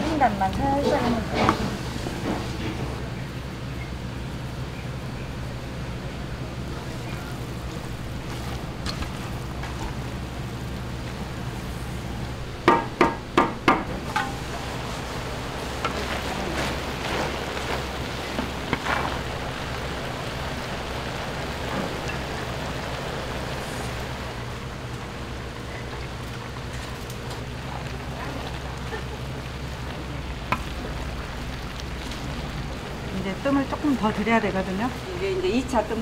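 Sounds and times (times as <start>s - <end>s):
greens stirred in pan: 0.0s - 2.8s, 6.4s - 12.4s, 14.0s - 36.0s
steady low hum: 0.0s - 36.0s.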